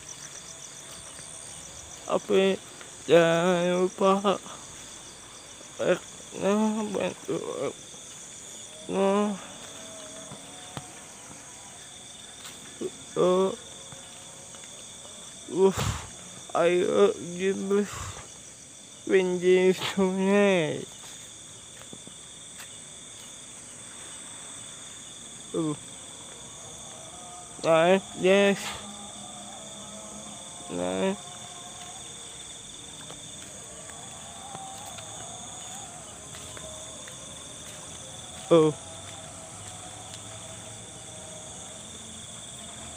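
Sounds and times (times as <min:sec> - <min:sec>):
insects chirring: 0:00.0 - 0:42.9.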